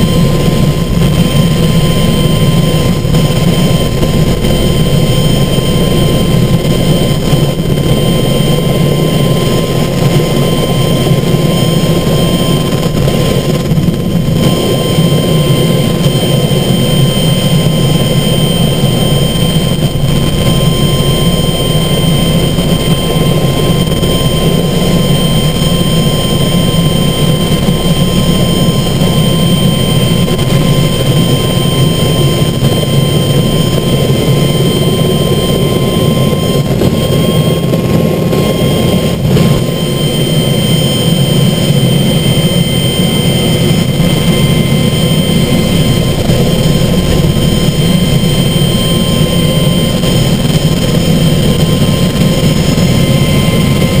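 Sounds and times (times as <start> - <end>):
helicopter engine and rotor drone: 0.0 - 54.0
high whine: 0.0 - 54.0.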